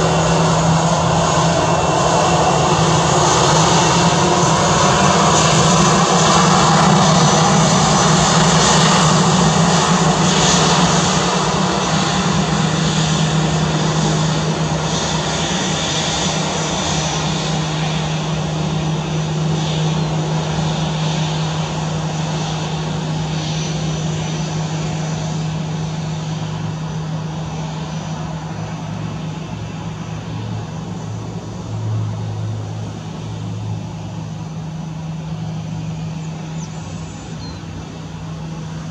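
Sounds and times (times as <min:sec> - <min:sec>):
jet engines on landing rollout: 0:00.0 - 0:38.9.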